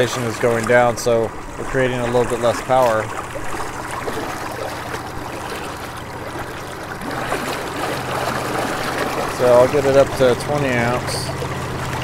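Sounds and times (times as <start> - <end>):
propeller churning water: 0.0 - 12.0.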